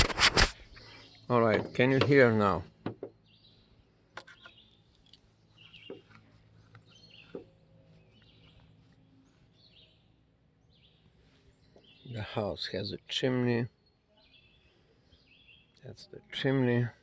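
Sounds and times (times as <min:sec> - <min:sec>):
quiet rural ambience: 0:00.0 - 0:17.0
faint birdsong chirps: 0:00.7 - 0:17.0.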